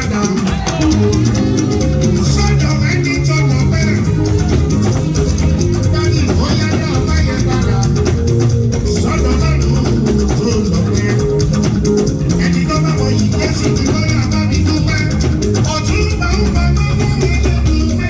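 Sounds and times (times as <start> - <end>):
loud band music: 0.0 - 18.0.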